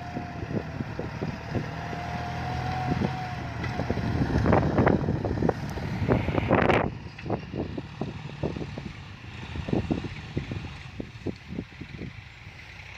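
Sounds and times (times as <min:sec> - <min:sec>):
tractor diesel engine under load: 0:00.0 - 0:12.9
rough crackling noises: 0:00.2 - 0:11.5.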